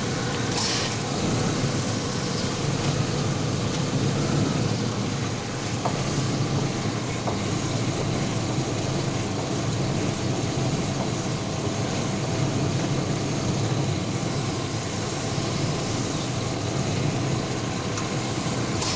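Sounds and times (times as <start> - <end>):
engine low rumble: 0.0 - 18.9.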